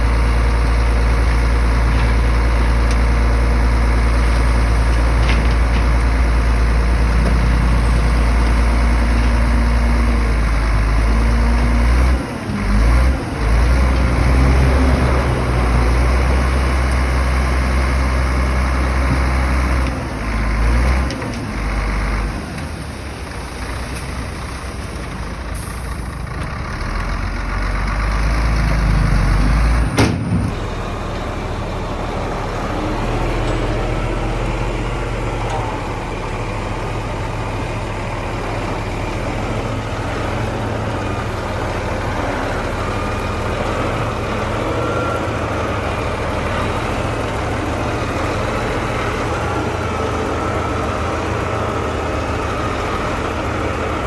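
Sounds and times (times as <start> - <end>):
diesel engines of heavy machinery: 0.0 - 54.0.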